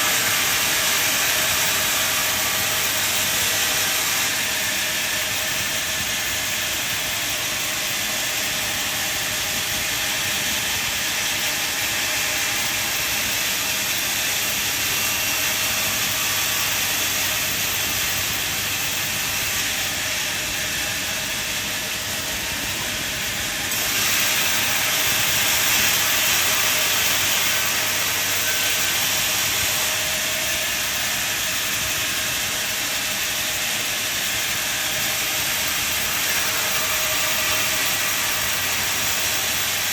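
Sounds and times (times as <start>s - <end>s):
saw cutting timber: 0.0s - 39.9s.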